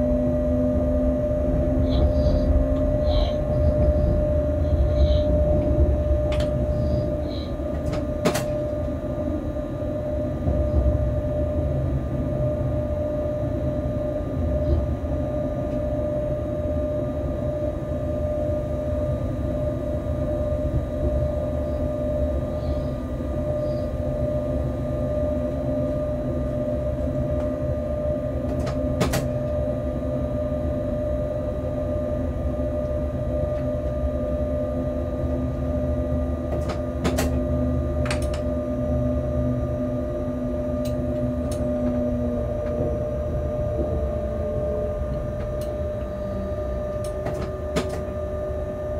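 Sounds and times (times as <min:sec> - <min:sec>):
locomotive cab rumble: 0:00.0 - 0:30.2, 0:36.4 - 0:48.9.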